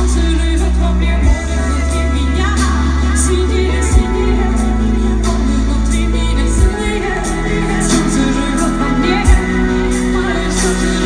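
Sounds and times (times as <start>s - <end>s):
deep bass notes: 0.0s - 11.0s
live pop band playing: 0.0s - 11.0s.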